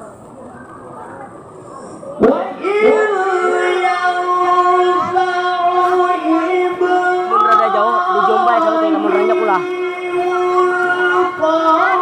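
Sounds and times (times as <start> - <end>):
man chanting recitation: 2.2 - 12.0.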